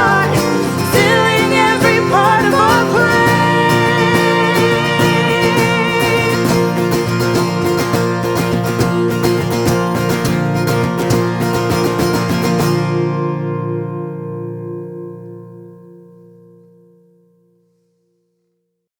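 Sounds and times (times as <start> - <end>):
acoustic guitar strumming: 0.0 - 18.5.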